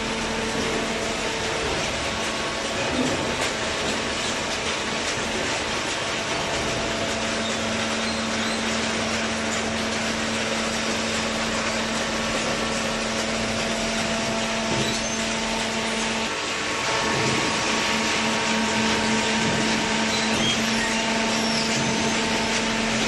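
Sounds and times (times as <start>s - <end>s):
hydraulic baler hissing and humming: 0.0s - 23.0s.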